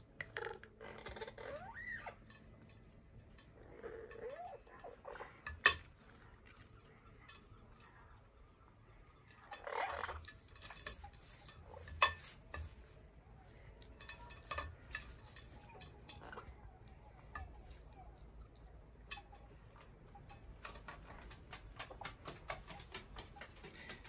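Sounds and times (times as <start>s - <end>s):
clicks and knocks against bowl: 0.1s - 8.0s, 9.2s - 13.2s, 13.8s - 24.0s.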